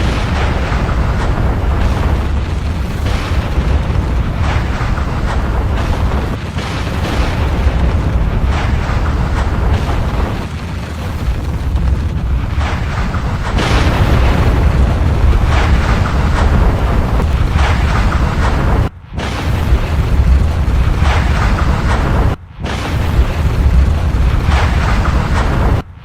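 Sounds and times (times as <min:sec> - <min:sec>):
rushing noise surges: 0:00.0 - 0:25.8
volcanic eruption rumble: 0:00.0 - 0:26.0.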